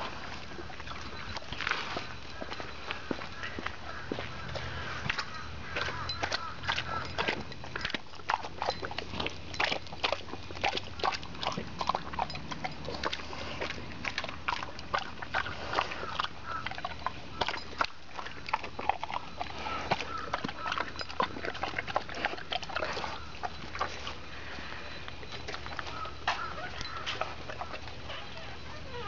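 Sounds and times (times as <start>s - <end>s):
dog chewing and lip-smacking: 0.0s - 29.0s.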